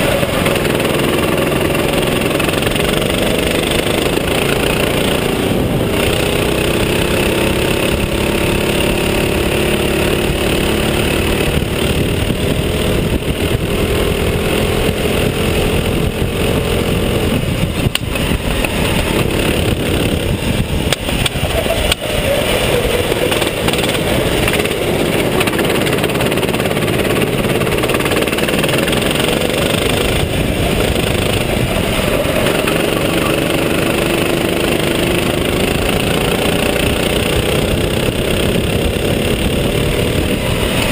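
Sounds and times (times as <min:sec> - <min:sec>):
go-kart engine running hard: 0:00.0 - 0:40.9
steady rushing noise: 0:00.0 - 0:40.9.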